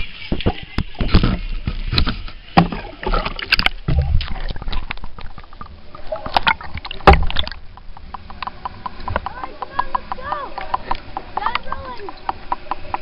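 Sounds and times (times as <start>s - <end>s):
muffled water sloshing: 0.0s - 13.0s.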